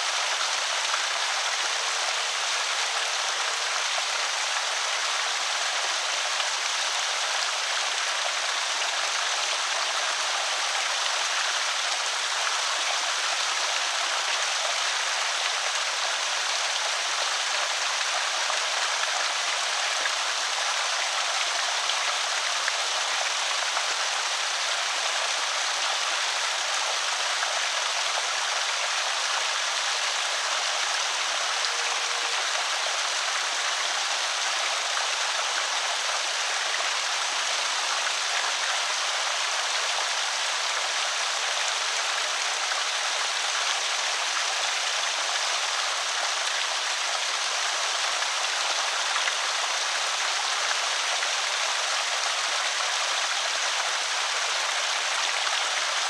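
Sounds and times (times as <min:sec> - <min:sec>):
water pouring over spillway: 0:00.0 - 0:56.0.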